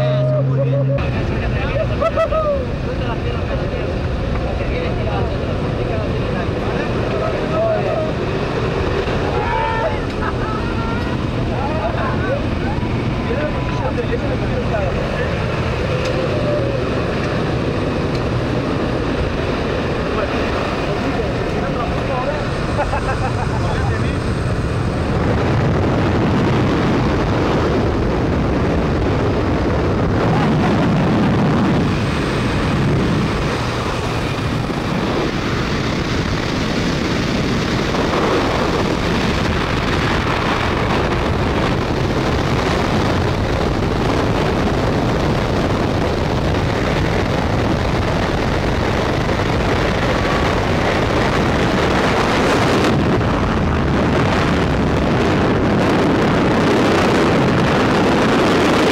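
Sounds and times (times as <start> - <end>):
aircraft engine noise: 0.0 - 58.9
freefall wind buffeting microphone: 0.0 - 58.9.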